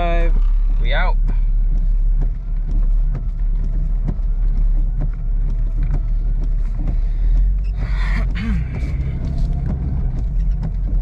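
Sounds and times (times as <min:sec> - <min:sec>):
car interior low rumble: 0:00.0 - 0:11.0.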